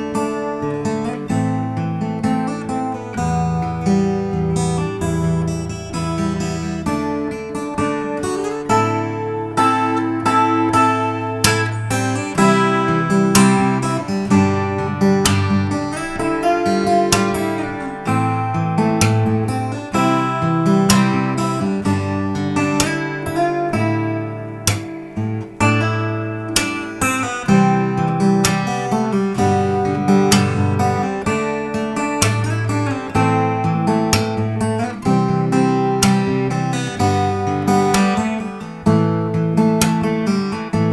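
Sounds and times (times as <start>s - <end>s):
acoustic guitar music: 0.0s - 40.9s.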